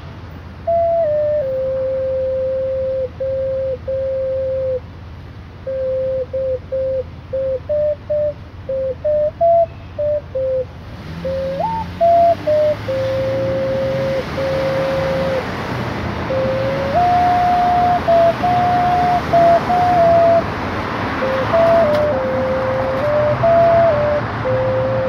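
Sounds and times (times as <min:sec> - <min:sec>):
small wind instrument whistle-like tune: 0:00.6 - 0:04.9, 0:05.6 - 0:15.6, 0:16.2 - 0:25.0.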